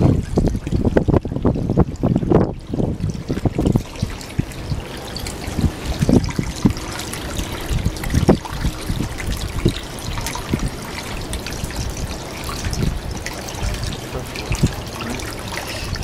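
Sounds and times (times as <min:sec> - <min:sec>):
low splashes in water: 0:00.0 - 0:16.0
water trickling and splashing: 0:00.0 - 0:16.0.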